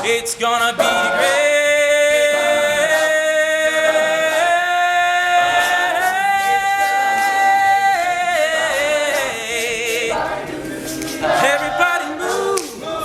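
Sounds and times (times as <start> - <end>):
male a cappella group singing: 0.0 - 13.0.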